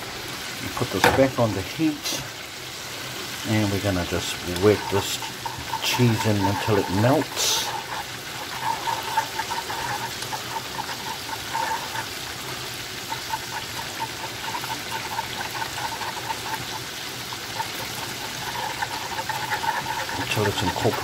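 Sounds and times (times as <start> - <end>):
frying hiss: 0.0 - 21.0
whisk beating thick sauce: 0.8 - 21.0.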